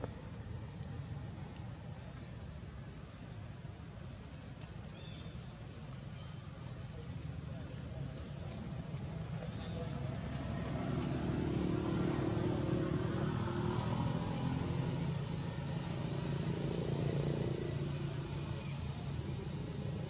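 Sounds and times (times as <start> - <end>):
engine running low rumble: 0.0 - 20.0.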